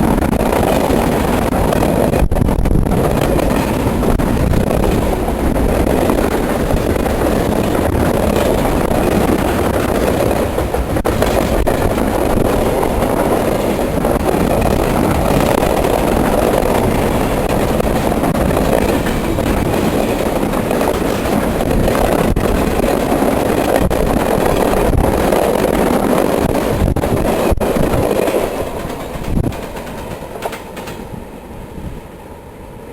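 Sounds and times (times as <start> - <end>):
freight cars rolling: 0.0 - 31.2
wheels clicking over rail joints: 0.0 - 31.2.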